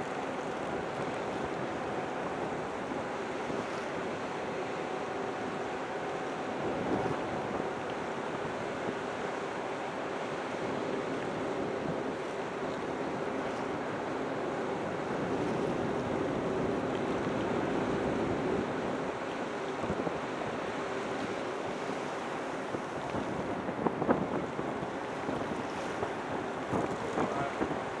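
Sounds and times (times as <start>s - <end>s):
sea noise: 0.0s - 28.0s
wind on microphone: 0.0s - 28.0s.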